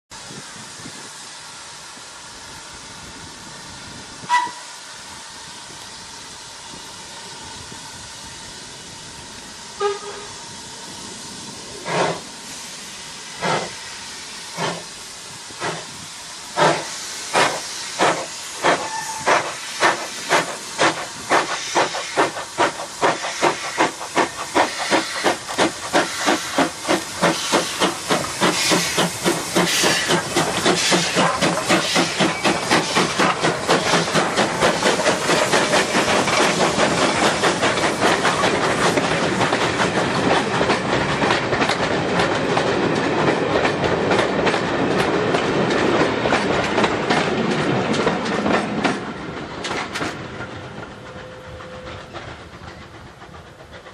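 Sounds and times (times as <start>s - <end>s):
steam hissing: 0.1s - 49.1s
steam locomotive exhaust beats: 0.2s - 53.9s
train coaches clickety-clack: 2.8s - 4.8s, 5.6s - 53.9s.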